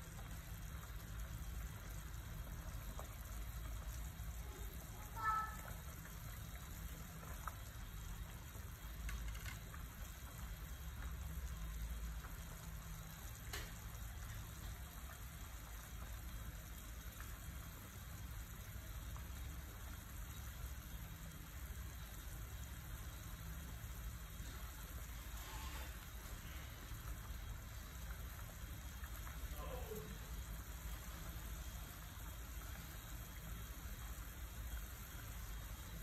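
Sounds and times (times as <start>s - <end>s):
soup boiling and bubbling: 0.0s - 36.0s.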